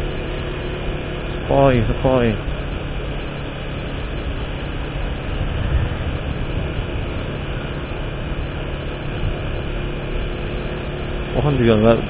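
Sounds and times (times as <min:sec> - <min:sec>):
road and air noise: 0:00.0 - 0:12.0
vehicle engine hum: 0:00.0 - 0:12.0.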